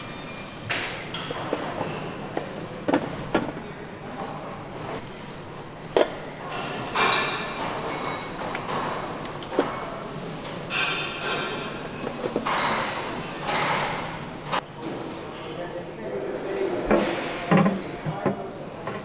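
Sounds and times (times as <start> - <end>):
factory hum: 0.0 - 19.0.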